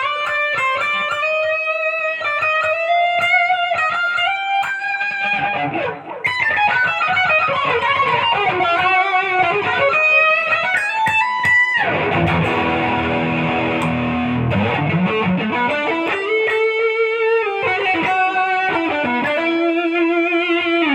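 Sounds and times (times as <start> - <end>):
electric guitar lead with slides: 0.0 - 20.9.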